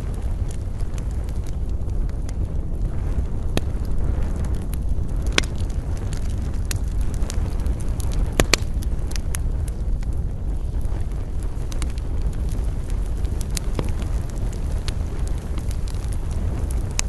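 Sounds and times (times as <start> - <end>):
campfire crackling and popping: 0.0 - 17.0
low wind rush: 0.0 - 17.0.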